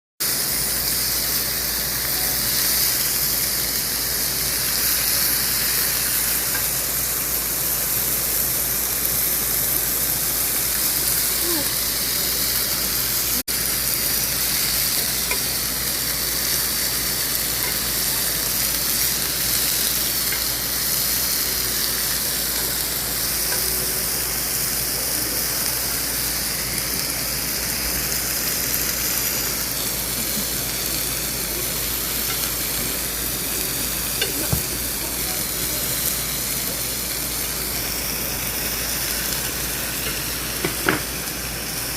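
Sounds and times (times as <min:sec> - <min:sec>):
meat sizzling on a grill: 0:00.2 - 0:41.9.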